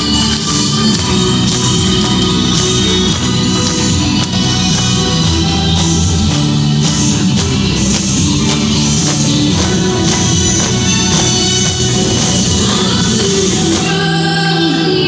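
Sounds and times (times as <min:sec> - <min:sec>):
loud music with guitar and beat: 0:00.0 - 0:15.0.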